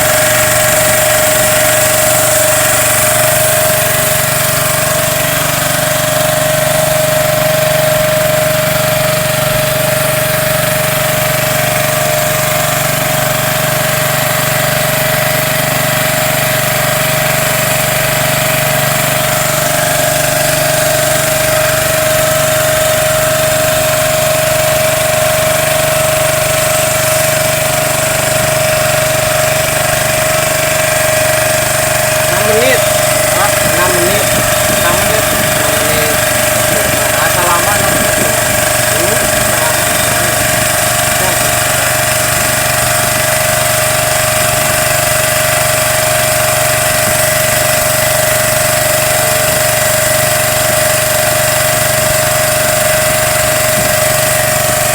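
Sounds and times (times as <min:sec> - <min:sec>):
small boat engine running: 0:00.0 - 0:54.9.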